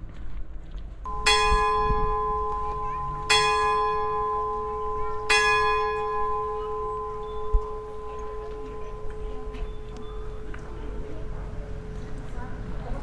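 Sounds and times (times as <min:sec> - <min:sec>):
large tower bell ringing: 0:01.1 - 0:13.0.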